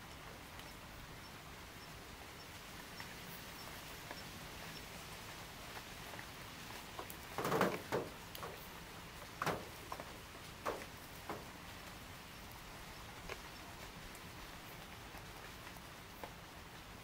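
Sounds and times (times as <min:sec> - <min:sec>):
raindrops dripping onto car: 0:00.0 - 0:17.0.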